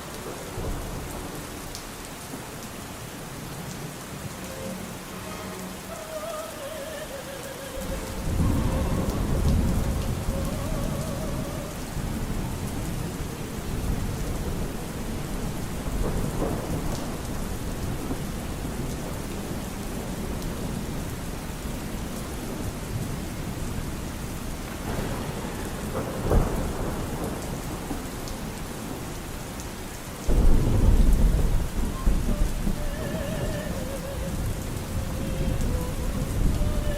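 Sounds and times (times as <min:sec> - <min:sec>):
thunder: 0:00.0 - 0:03.5, 0:06.3 - 0:29.6, 0:30.2 - 0:36.9
steady rain: 0:00.0 - 0:36.9.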